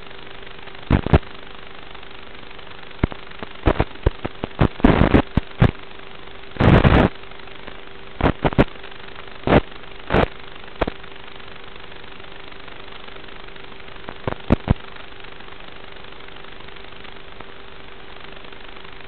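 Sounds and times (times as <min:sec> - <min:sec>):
crackling bursts of static: 0:00.0 - 0:19.0
static hiss: 0:00.0 - 0:19.0
thin steady hum: 0:00.0 - 0:19.0.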